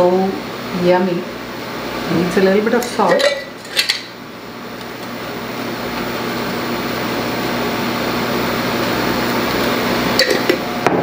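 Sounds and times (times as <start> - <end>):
faint low cooktop hum: 0.0 - 11.0.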